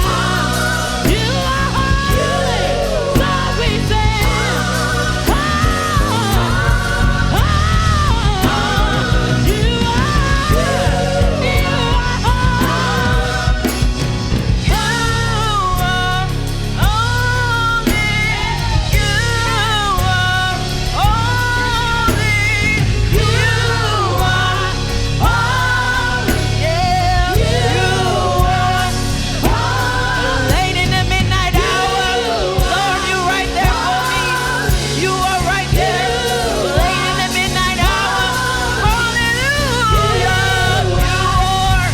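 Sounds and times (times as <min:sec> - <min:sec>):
worship band music with singing: 0:00.0 - 0:41.9.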